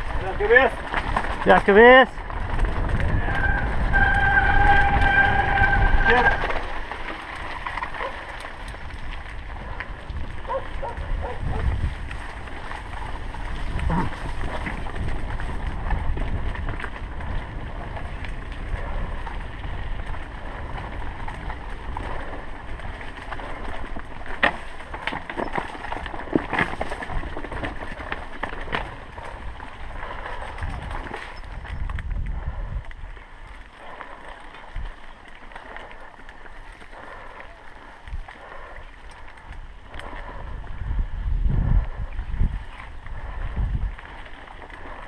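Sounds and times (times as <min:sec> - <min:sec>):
wind buffeting microphone: 0:00.0 - 0:25.1, 0:26.2 - 0:45.0
bike clicks and rattles: 0:00.0 - 0:45.0
bike tyres rumbling on dirt: 0:00.0 - 0:45.0.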